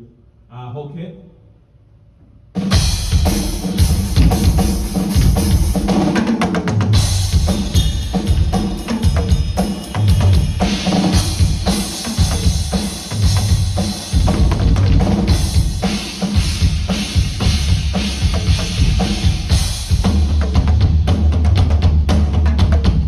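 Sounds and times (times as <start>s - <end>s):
drum kit groove: 2.6s - 23.0s.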